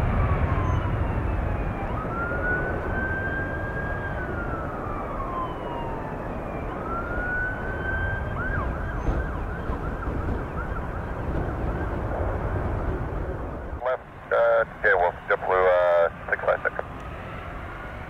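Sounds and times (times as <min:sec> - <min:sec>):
emergency vehicle siren: 0:00.0 - 0:18.0.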